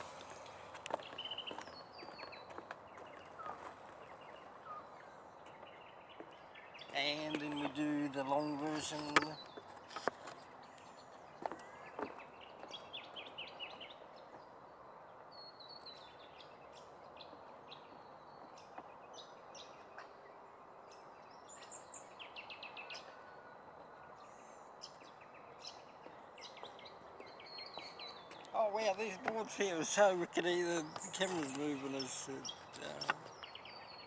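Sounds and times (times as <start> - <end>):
wild birds chirping: 0.0 - 34.0.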